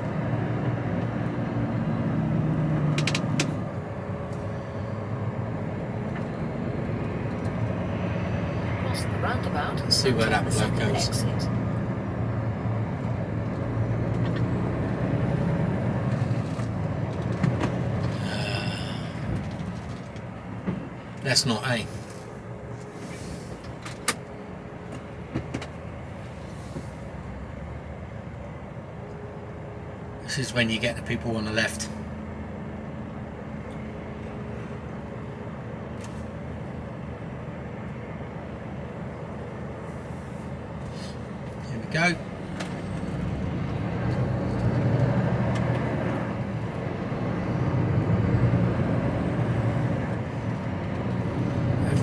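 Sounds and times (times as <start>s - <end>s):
lorry diesel engine rumble: 0.0s - 52.0s.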